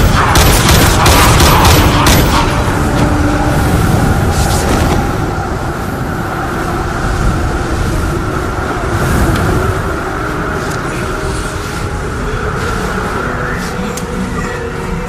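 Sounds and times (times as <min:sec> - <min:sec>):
low rumbling roar: 0:00.0 - 0:13.3
hissing swells: 0:02.3 - 0:15.0.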